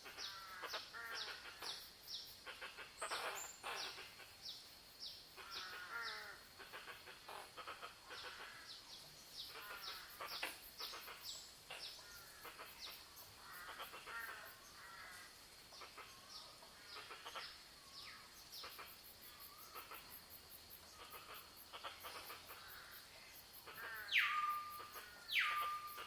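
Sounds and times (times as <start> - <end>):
loud bird calls: 0.0 - 4.7, 5.4 - 26.0
wild birds calling: 0.0 - 26.0.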